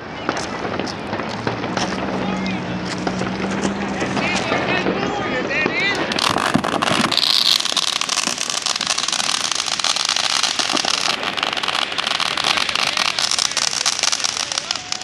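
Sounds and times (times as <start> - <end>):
firework fountain hissing and crackling: 0.0 - 15.0.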